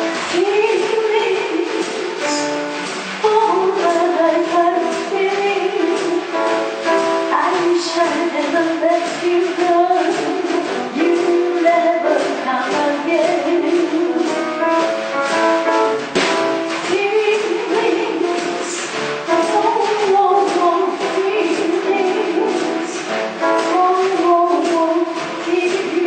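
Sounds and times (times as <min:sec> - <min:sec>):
woman singing: 0:00.0 - 0:14.9, 0:16.5 - 0:26.0
instrumental backing: 0:00.0 - 0:26.0.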